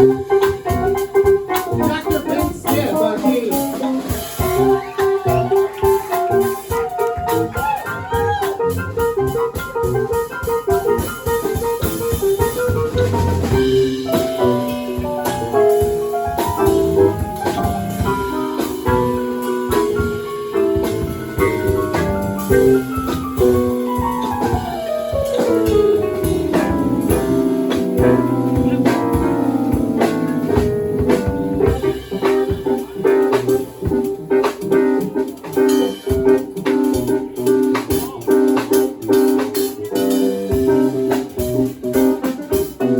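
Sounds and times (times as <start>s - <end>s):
drum kit: 0.0s - 42.9s
electric guitar: 0.0s - 42.9s.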